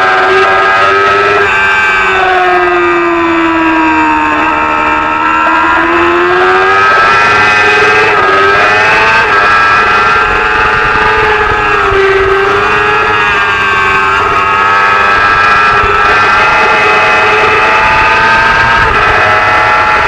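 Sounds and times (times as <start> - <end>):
racing motorcycle engine revving: 0.0 - 20.0.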